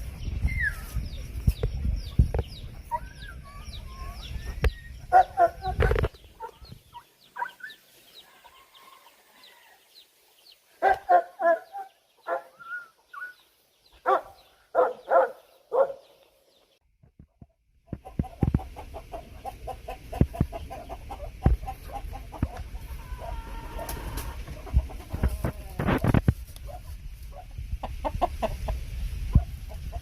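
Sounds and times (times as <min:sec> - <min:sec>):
chickens clucking: 0:00.0 - 0:15.4, 0:17.9 - 0:30.0.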